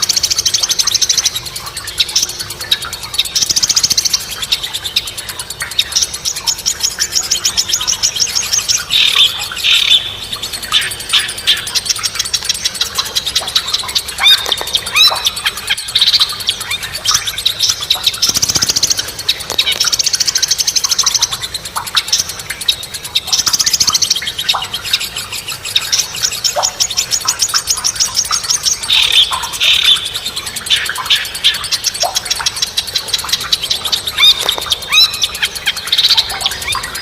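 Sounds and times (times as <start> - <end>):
bird trills: 0.0 - 37.0
songbirds chirping: 0.0 - 37.0.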